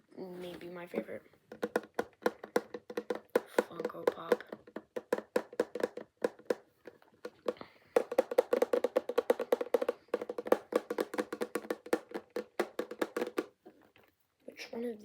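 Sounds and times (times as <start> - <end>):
hollow tapping on vinyl figure: 0.5 - 14.1.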